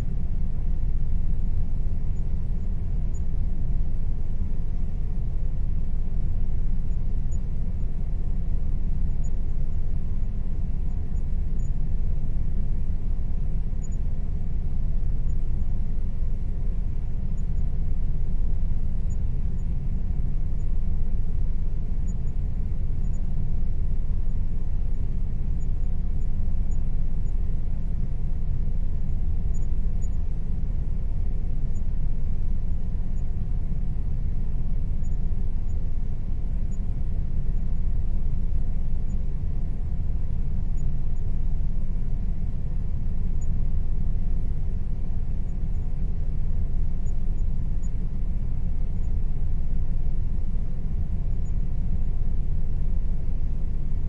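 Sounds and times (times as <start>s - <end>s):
air conditioner running: 0.0s - 54.0s.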